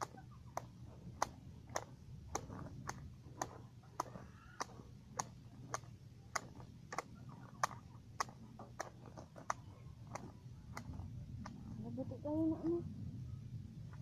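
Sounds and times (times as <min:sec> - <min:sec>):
blade chopping grass clicks: 0:00.0 - 0:11.8.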